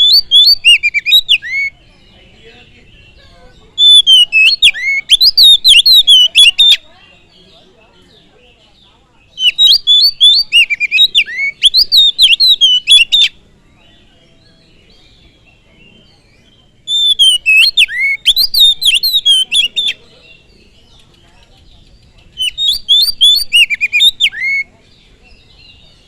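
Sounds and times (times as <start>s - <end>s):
bird singing whistled phrases: 0.0s - 7.4s, 9.3s - 13.4s, 14.4s - 20.9s, 21.7s - 26.0s.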